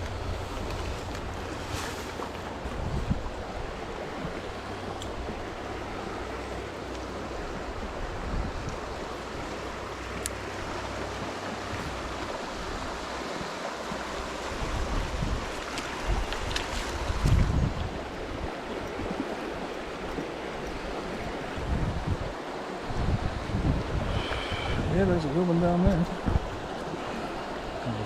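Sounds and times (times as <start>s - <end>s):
running stream water: 0.0s - 28.0s
wind rumble on microphone: 0.0s - 28.0s.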